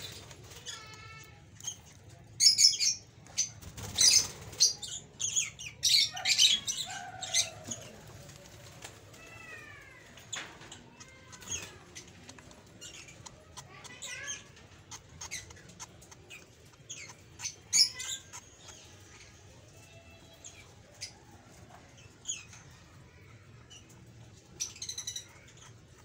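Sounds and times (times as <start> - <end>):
birds chirping and squawking: 0.0 - 26.0
falling bird calls: 0.0 - 26.0.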